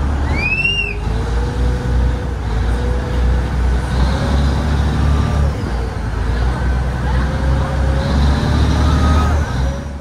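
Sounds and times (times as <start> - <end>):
boat engine low rumble: 0.0 - 10.0.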